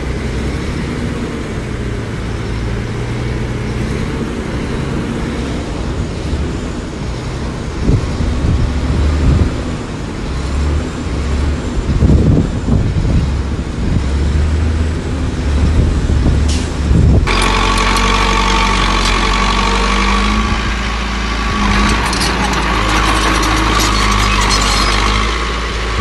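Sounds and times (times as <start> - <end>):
engine whine: 0.0 - 26.0
heavy diesel machinery rumbling: 0.0 - 26.0.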